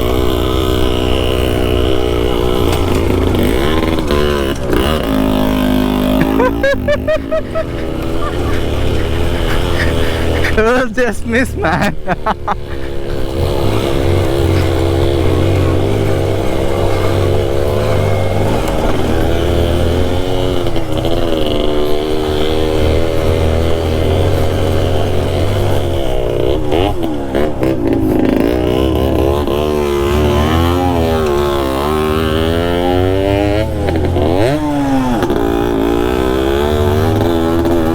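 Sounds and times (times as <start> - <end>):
two-stroke motorcycle engine revving: 0.0 - 37.9.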